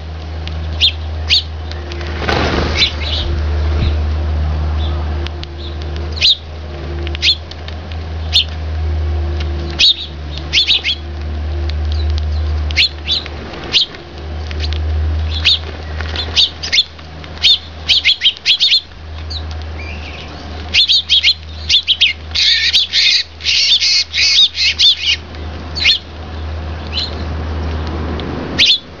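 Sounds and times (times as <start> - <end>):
low steady rumble: 0.0 - 29.0
sparrows chirping: 0.5 - 4.1, 4.7 - 6.5, 7.1 - 8.6, 9.5 - 11.2, 11.8 - 28.0, 28.6 - 29.0.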